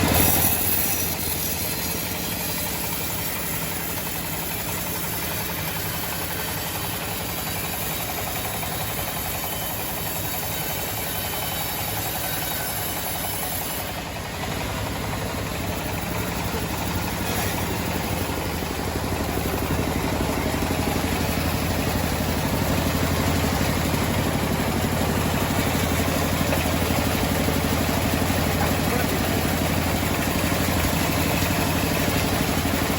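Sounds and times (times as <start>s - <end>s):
sawmill engine running: 0.0s - 32.9s.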